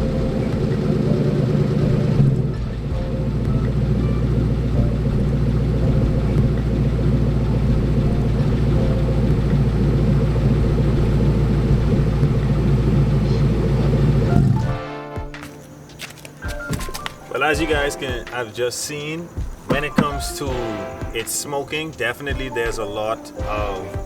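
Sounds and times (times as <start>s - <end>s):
car engine idling: 0.0s - 14.7s, 16.5s - 24.0s.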